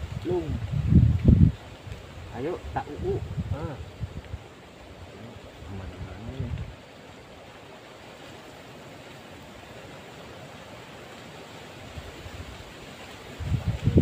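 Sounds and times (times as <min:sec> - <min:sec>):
outdoor hiss: 0:00.0 - 0:14.0.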